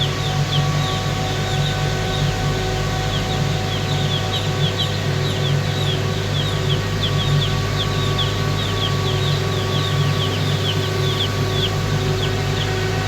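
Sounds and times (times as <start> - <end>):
chicks peeping: 0.0 - 13.0
low machine hum: 0.0 - 13.0.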